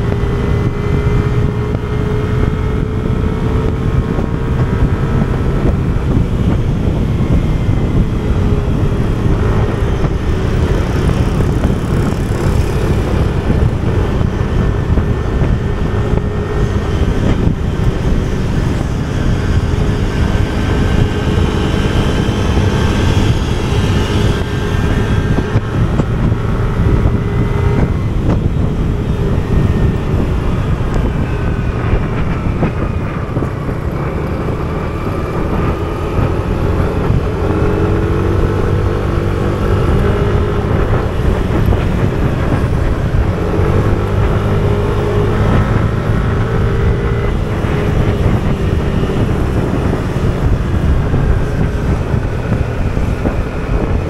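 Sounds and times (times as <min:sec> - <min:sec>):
scooter engine droning: 0:00.0 - 0:54.0
wind on microphone: 0:00.0 - 0:54.0.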